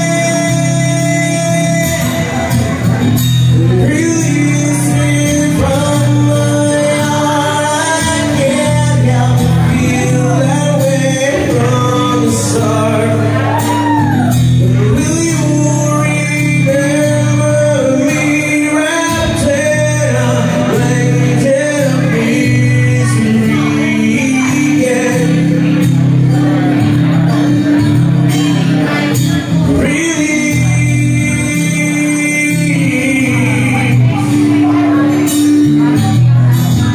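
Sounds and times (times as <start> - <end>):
acoustic guitar chords: 0.0 - 36.9
man singing: 0.0 - 36.9.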